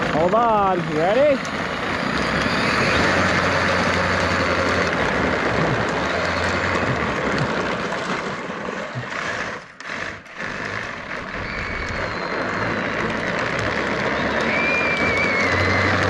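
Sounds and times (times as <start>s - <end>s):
wind and road rushing: 0.0s - 16.0s.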